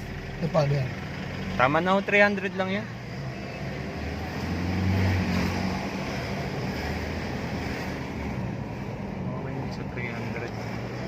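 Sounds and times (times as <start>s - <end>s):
diesel engine hum: 0.0s - 11.0s
tire noise on the road: 0.0s - 11.0s.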